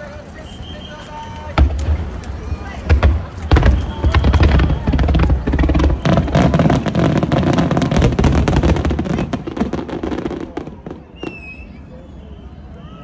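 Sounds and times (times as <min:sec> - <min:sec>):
fireworks bursting: 0:00.0 - 0:11.8.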